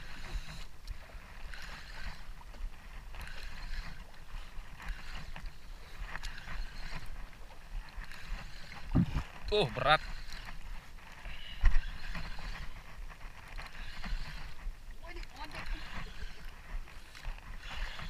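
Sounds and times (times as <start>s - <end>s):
water sloshing against boat hull: 0.0s - 18.0s
wind rumbling on microphone: 0.0s - 18.0s.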